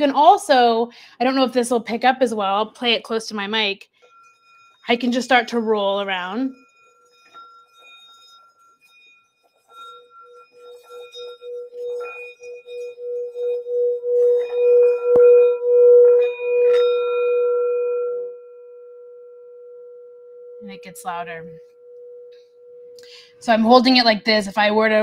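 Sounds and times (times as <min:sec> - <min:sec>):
singing bowl ringing: 0:00.0 - 0:25.0.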